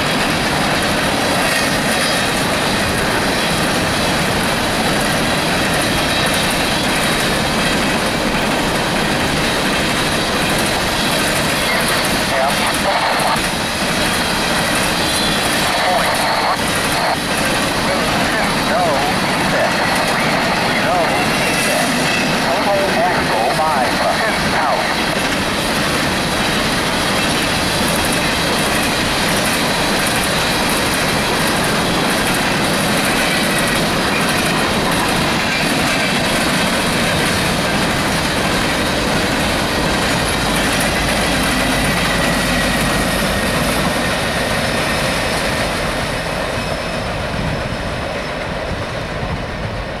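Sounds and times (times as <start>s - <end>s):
hopper cars rumbling on rail: 0.0s - 50.0s.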